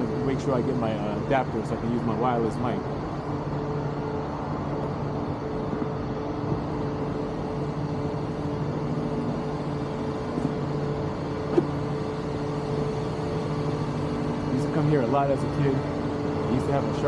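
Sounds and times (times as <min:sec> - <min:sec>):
city background noise: 0:00.0 - 0:17.0
machine humming: 0:00.0 - 0:17.0.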